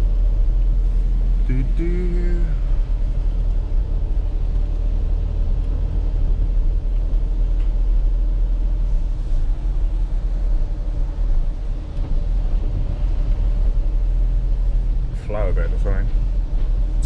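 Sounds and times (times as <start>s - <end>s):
road noise: 0.0s - 17.0s
van engine rumble: 0.0s - 17.0s.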